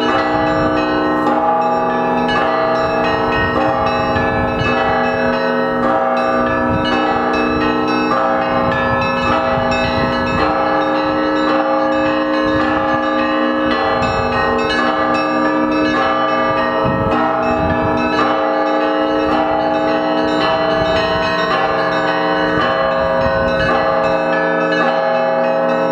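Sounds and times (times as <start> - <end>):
church bells ringing: 0.0 - 25.9.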